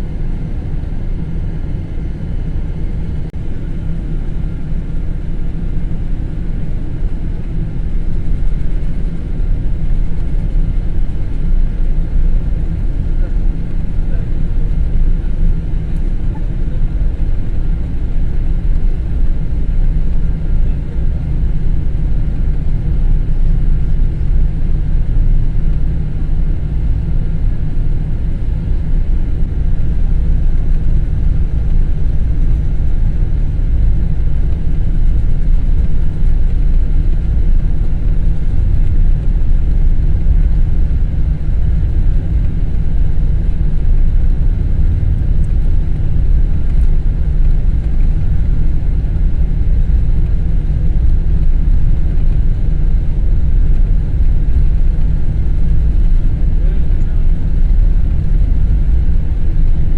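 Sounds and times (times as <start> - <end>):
airplane cabin low rumble: 0.0 - 59.9.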